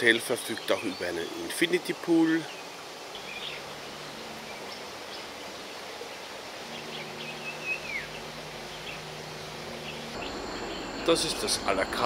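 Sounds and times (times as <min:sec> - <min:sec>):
steady outdoor hiss: 0:00.0 - 0:12.0
bird chirps: 0:00.4 - 0:11.6.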